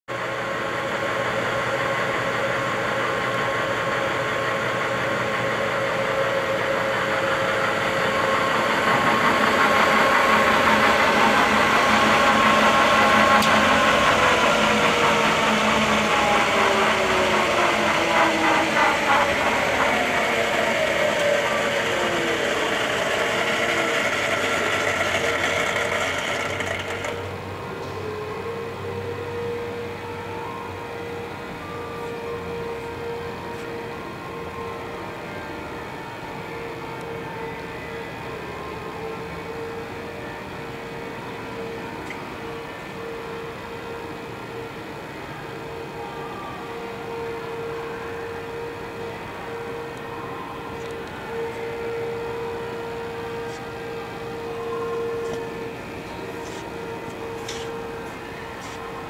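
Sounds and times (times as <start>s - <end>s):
drill press mechanical whine: 0.1s - 59.0s.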